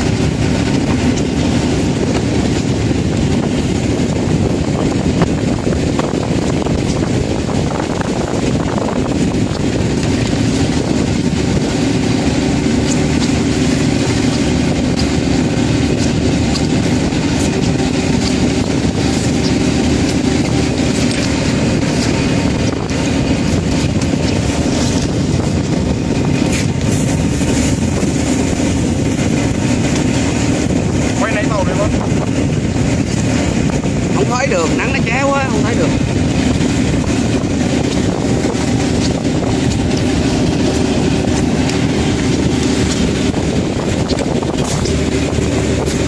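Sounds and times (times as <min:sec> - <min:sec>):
boat engine drone: 0:00.0 - 0:46.0
water noise: 0:00.0 - 0:46.0.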